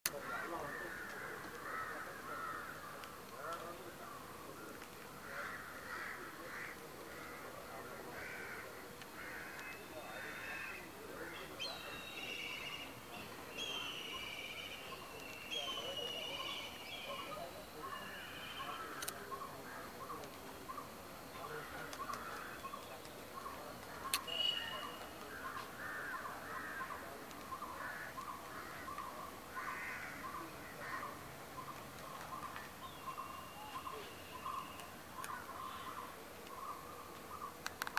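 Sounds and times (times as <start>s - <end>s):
crows cawing: 0.1s - 4.2s, 5.1s - 11.5s, 13.6s - 20.1s, 21.4s - 22.8s, 23.4s - 31.3s, 32.4s - 37.6s.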